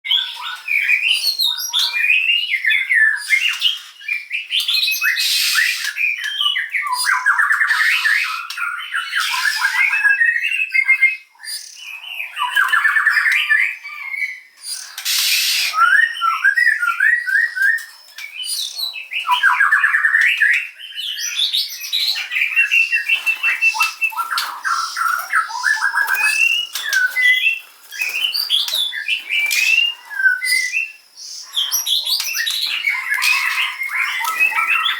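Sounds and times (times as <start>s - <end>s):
harsh rasping bird calls: 0.1s - 10.2s, 11.5s - 34.9s
bird singing chirps and trills: 0.1s - 34.9s.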